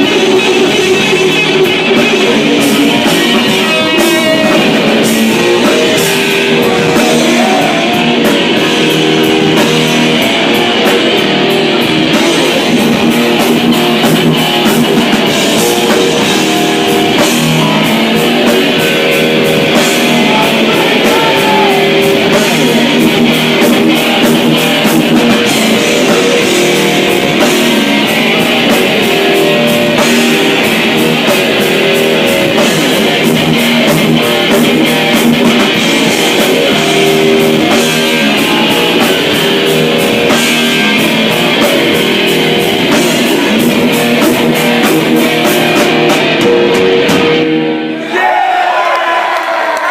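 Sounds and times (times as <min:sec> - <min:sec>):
distorted electric guitar: 0:00.0 - 0:48.1
drums: 0:00.0 - 0:49.9.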